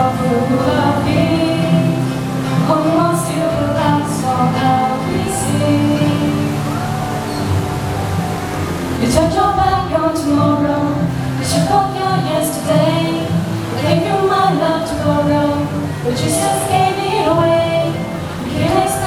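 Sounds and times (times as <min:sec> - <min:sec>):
girls singing pop song: 0:00.0 - 0:07.6, 0:09.0 - 0:19.0
backing track: 0:00.0 - 0:19.0.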